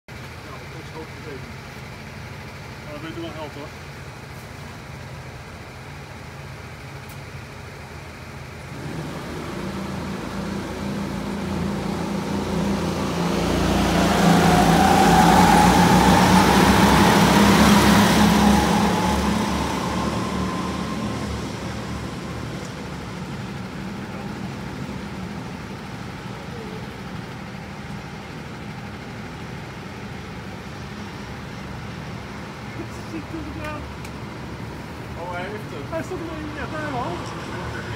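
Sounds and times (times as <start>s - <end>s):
go-kart engines: 0.1s - 37.9s.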